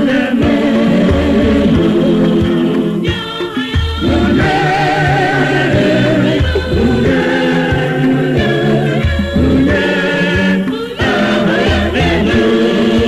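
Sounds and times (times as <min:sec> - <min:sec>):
choir singing gospel song: 0:00.0 - 0:13.0.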